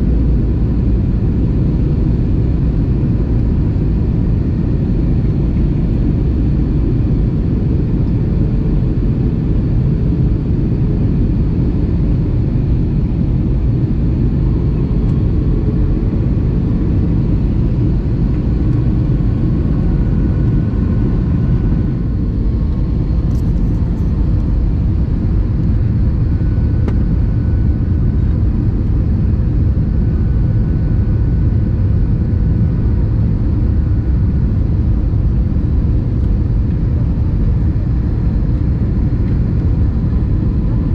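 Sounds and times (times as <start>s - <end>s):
airliner cabin roar: 0.0s - 40.9s.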